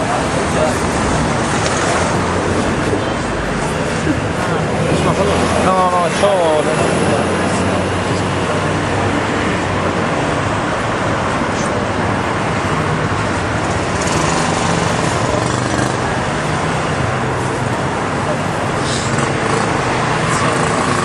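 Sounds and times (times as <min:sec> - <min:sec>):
rush of passing vehicles: 0:00.0 - 0:21.0.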